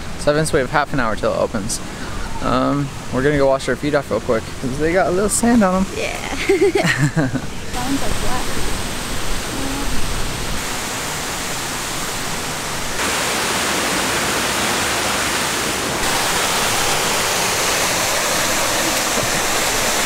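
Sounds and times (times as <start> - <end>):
waterfall running water: 0.0 - 20.0.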